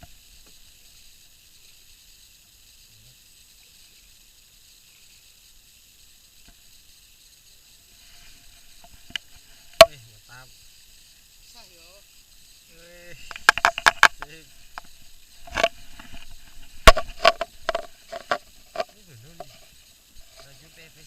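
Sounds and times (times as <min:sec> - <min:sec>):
faint high hiss: 0:00.0 - 0:21.0.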